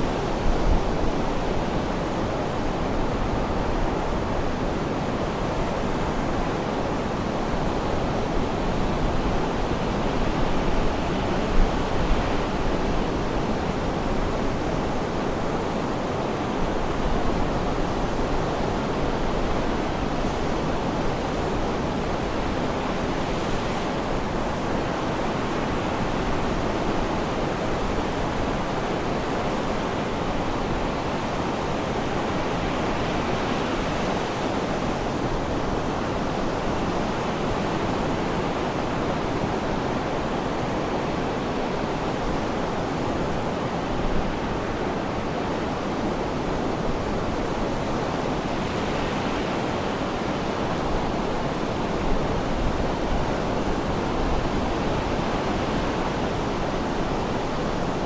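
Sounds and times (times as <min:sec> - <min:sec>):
sea surf washing: 0:00.0 - 0:58.0.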